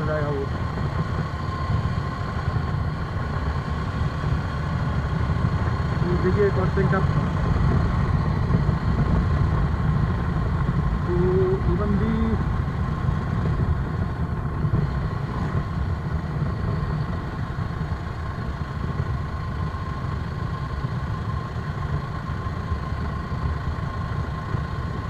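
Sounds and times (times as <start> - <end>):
faint steady whine: 0.0 - 25.0
motorcycle engine rumble: 0.0 - 25.0.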